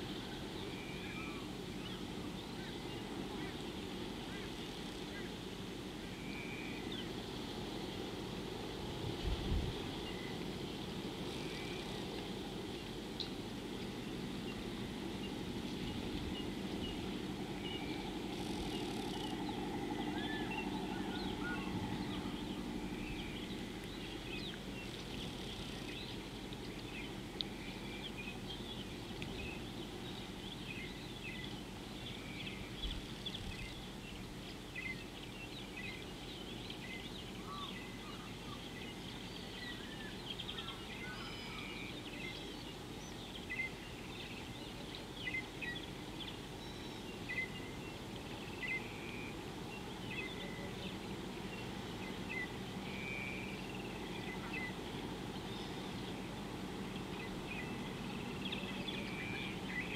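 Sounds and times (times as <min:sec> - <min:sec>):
low steady rumble: 0:00.0 - 0:59.9
small birds chirping: 0:10.0 - 0:59.9.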